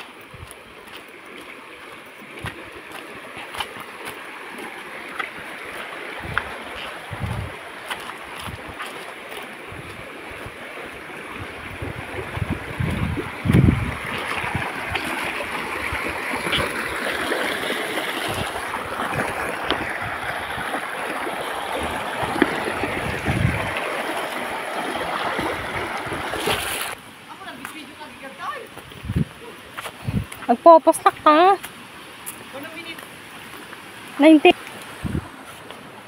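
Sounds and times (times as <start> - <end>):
stream splashing over rocks: 0.0 - 36.0.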